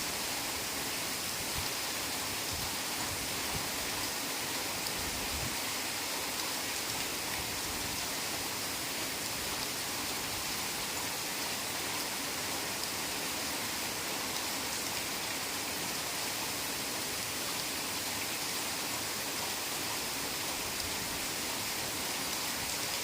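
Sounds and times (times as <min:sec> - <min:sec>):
heavy rain on a forest: 0:00.0 - 0:23.0.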